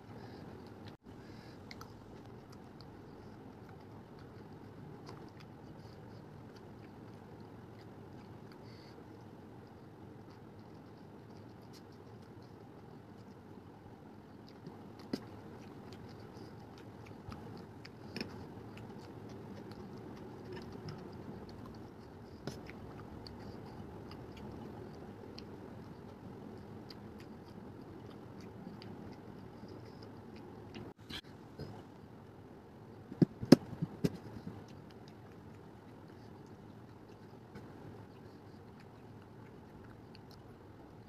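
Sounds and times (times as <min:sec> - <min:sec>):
chewing noodles: 0:00.1 - 0:32.1, 0:34.2 - 0:41.0.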